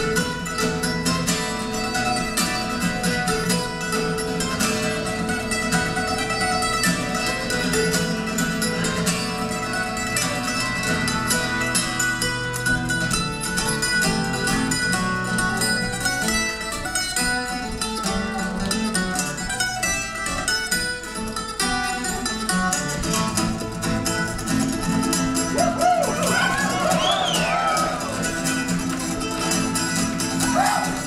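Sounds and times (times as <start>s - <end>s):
acoustic guitar strumming: 0.0s - 31.0s
plucked string instrument melody: 0.0s - 31.0s.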